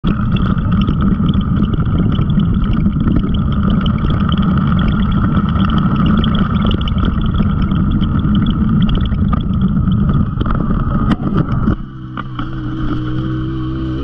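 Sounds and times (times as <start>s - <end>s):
tyres ticking on loose stones: 0.0s - 12.5s
vehicle engine running: 0.0s - 14.0s.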